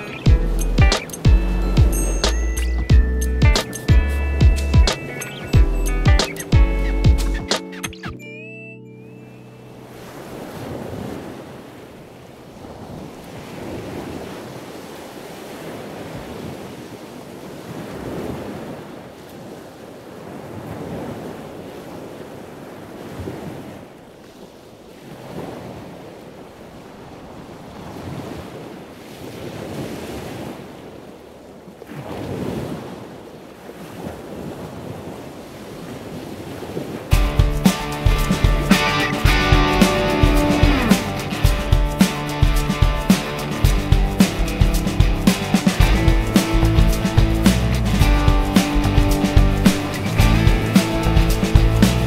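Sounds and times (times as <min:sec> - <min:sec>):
sea waves washing in: 0:00.0 - 0:08.4, 0:09.0 - 0:52.0
wind: 0:00.0 - 0:52.0.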